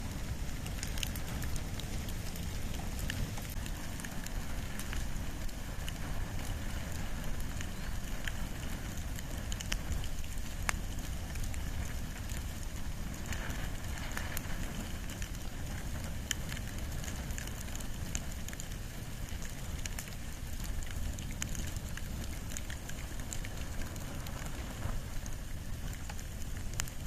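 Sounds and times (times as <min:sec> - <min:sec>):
fire burning with crackles: 0:00.0 - 0:27.0.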